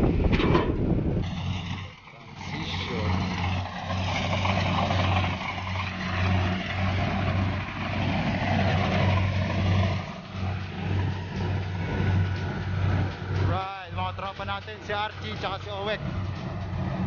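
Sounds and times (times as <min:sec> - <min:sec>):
diesel engine drone: 0:00.0 - 0:17.0
harvester machinery rushing: 0:00.0 - 0:17.0.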